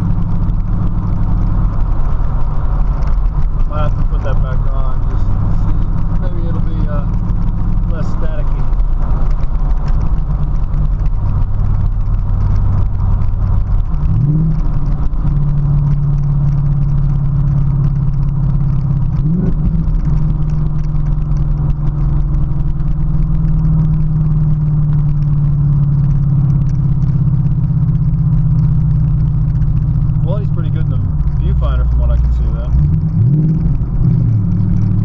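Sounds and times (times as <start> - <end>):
car engine drone while driving: 0.0 - 35.0.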